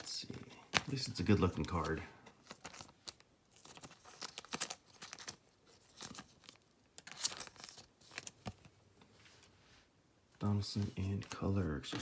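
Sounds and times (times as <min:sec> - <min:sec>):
plastic card sleeve crinkling: 0:00.0 - 0:08.8, 0:10.6 - 0:12.0.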